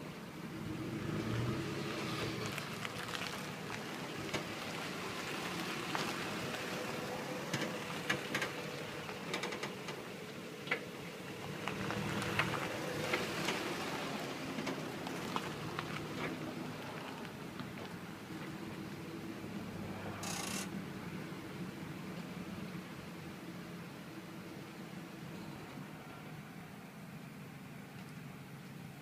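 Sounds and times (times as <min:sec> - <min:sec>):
low road hum: 0:00.0 - 0:29.0.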